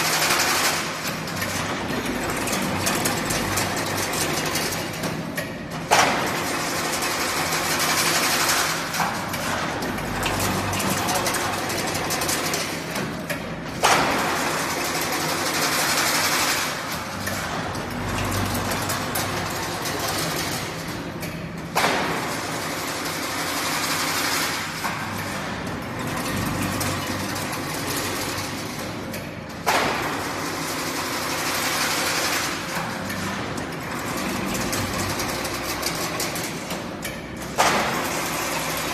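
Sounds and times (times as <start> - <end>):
sharp machine knock: 0.0 - 20.6, 21.2 - 28.6, 29.6 - 38.9
factory machine running: 0.0 - 38.9.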